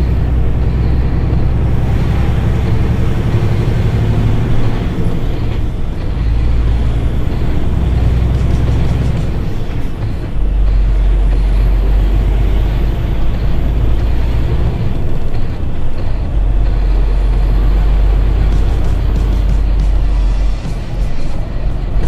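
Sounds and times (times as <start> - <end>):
lorry engine and road noise: 0.0 - 22.0.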